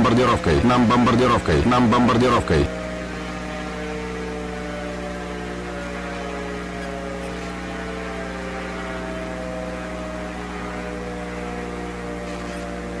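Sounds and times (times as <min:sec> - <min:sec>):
droning hum of overlapping tones: 0:00.0 - 0:13.0.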